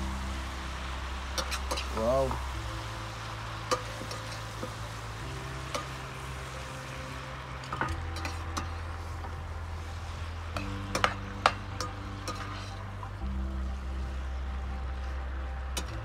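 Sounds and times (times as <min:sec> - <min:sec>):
butter sizzling in a pot: 0:00.0 - 0:14.2.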